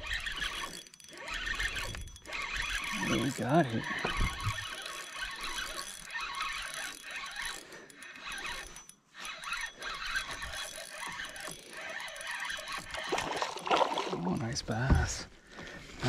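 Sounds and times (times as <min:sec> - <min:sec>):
fishing reel being cranked: 0:00.0 - 0:14.9.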